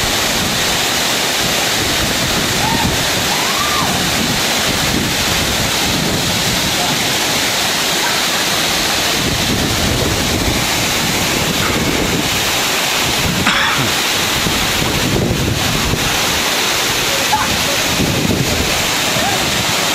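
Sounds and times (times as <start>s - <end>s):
waterfall rushing: 0.0s - 19.9s
wind buffeting microphone: 1.4s - 7.2s, 8.7s - 19.9s.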